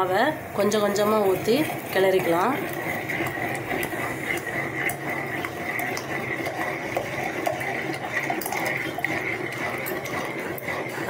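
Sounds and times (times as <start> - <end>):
steady high hum: 0.0 - 11.0
metal spoon scraping a pot: 0.6 - 11.0
liquid sloshing: 0.9 - 11.0.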